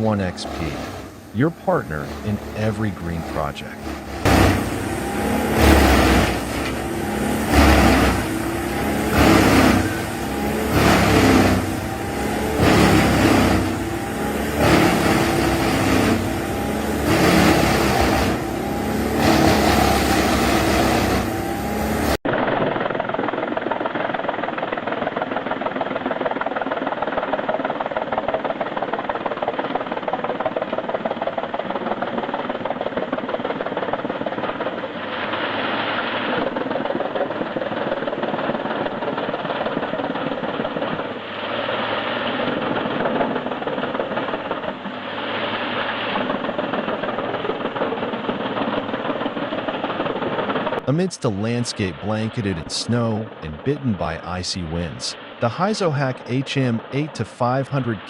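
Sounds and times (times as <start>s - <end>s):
wood chipper running: 0.0s - 52.3s
machine rough rumble: 0.0s - 58.0s.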